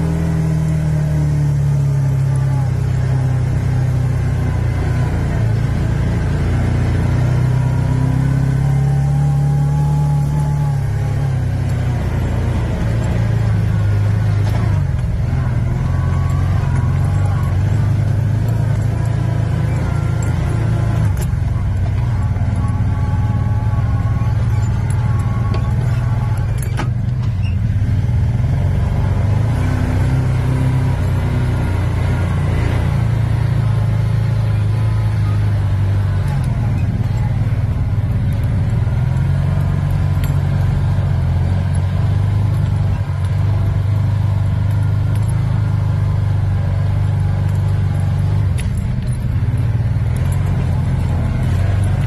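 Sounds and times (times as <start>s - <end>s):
engine droning under load: 0.0s - 52.0s.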